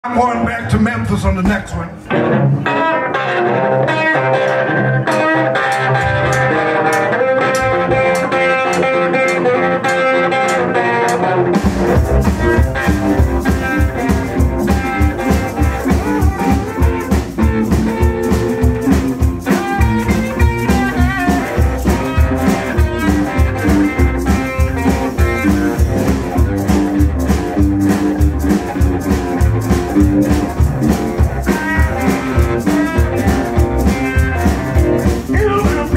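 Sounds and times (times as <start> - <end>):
electric guitar: 0.0 - 35.9
upright bass: 0.0 - 35.9
drums steady beat: 0.3 - 1.9, 5.1 - 10.6, 11.5 - 35.9.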